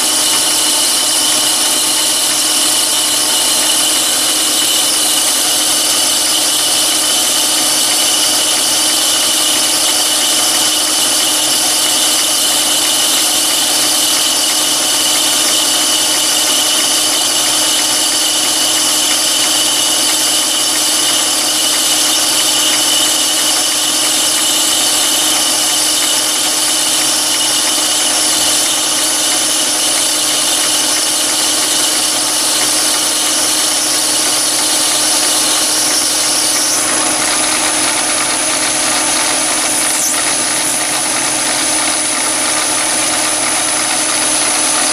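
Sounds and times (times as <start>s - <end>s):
lathe running with whine: 0.0s - 44.9s.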